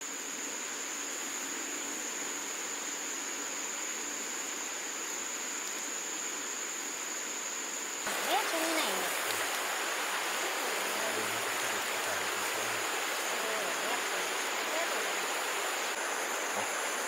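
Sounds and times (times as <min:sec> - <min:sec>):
constant hiss: 0:00.0 - 0:17.0.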